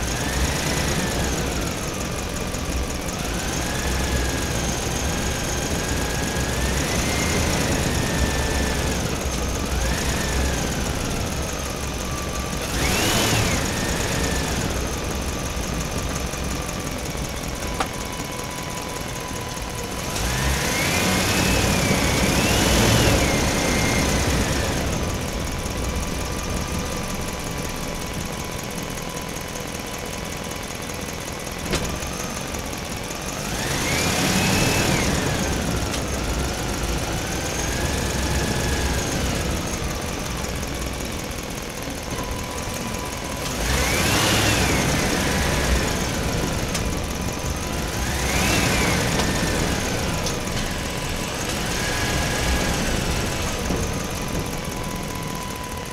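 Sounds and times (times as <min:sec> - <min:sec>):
model truck engine revving: 0:00.0 - 0:29.8, 0:30.4 - 0:55.9.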